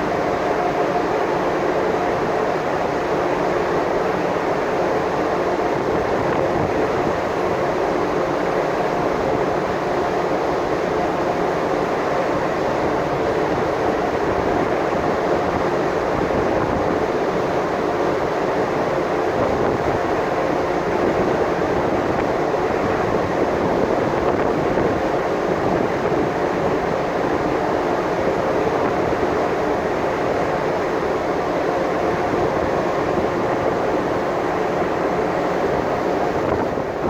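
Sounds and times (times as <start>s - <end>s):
ship engine drone: 0.0s - 37.0s.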